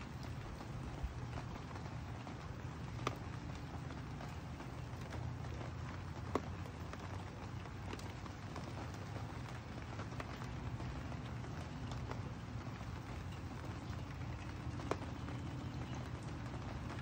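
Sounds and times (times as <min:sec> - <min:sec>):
drips ticking: 0:00.0 - 0:17.0
rain on a wooden deck: 0:00.0 - 0:17.0.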